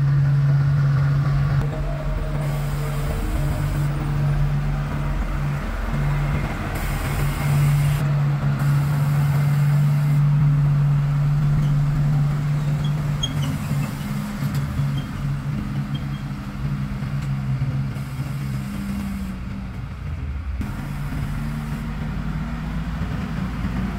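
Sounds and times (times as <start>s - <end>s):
road roller diesel engine drone: 0.0s - 23.9s.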